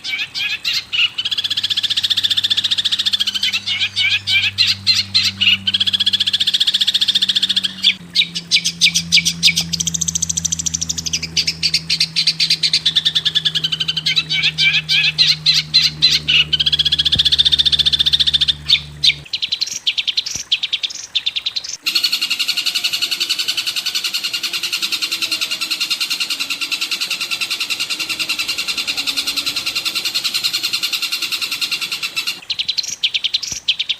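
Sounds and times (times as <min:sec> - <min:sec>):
birds trilling and chattering: 0:00.0 - 0:19.3, 0:21.5 - 0:33.0
low steady hum: 0:00.0 - 0:19.3, 0:21.8 - 0:32.4.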